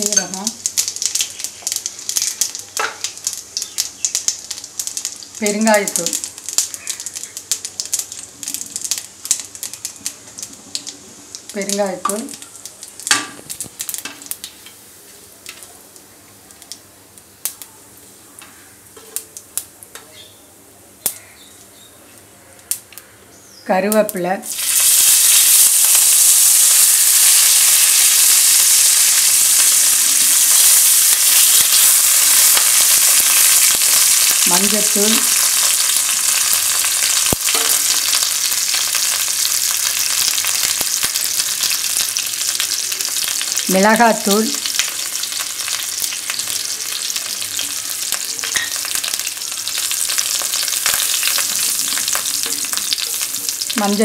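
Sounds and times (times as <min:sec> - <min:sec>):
seeds popping: 0:00.0 - 0:14.6, 0:24.5 - 0:54.0
oil sizzling in a pan: 0:00.0 - 0:17.6, 0:24.5 - 0:54.0.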